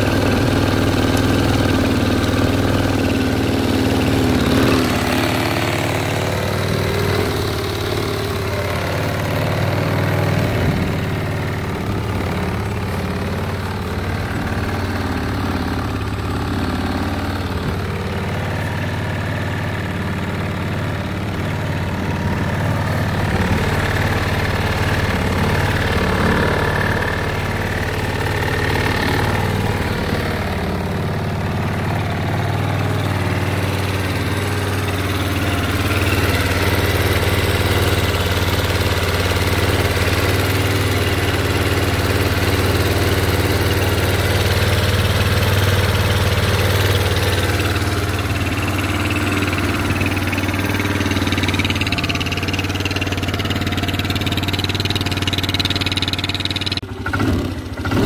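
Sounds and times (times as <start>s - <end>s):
atv engine idling: 0.0s - 58.0s.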